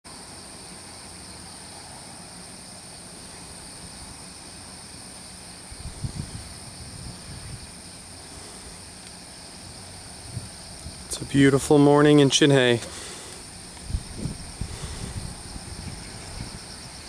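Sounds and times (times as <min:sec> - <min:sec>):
insect chorus: 0:00.1 - 0:17.0.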